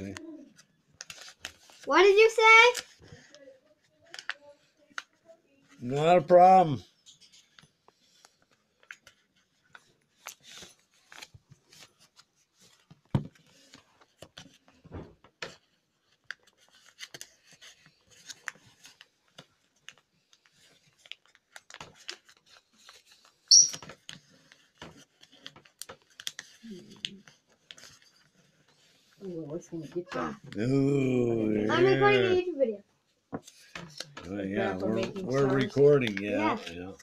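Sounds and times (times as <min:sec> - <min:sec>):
paper rustling and crinkling: 0:00.0 - 0:32.7, 0:33.3 - 0:37.0.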